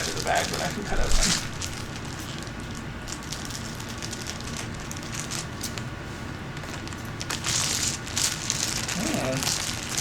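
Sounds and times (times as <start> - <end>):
plastic bag crinkling: 0.0 - 5.8, 6.5 - 10.0
low background hum: 0.0 - 10.0.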